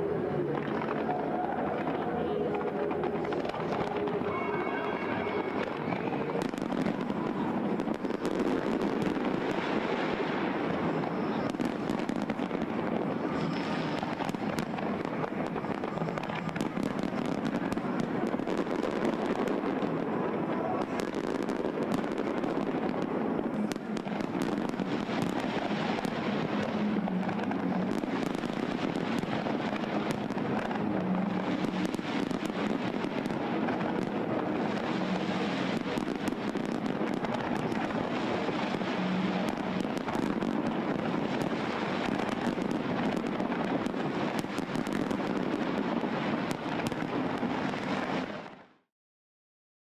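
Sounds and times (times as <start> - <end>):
fireworks bangs and crackling: 0.0 - 48.7.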